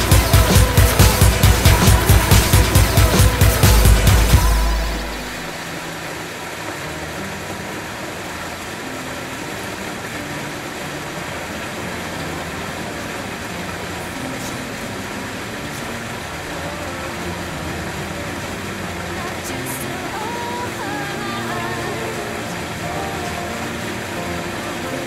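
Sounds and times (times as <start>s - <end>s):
waterfall splashing into pool: 0.0s - 25.0s.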